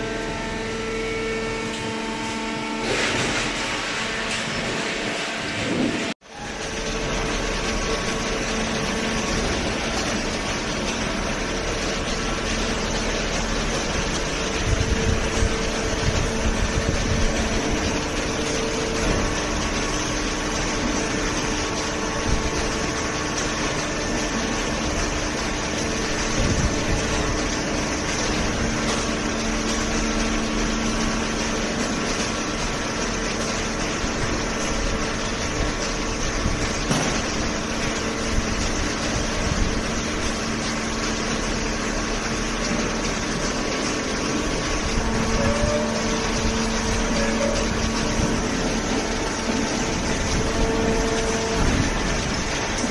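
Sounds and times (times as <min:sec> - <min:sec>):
machinery humming: 0:00.0 - 0:52.9.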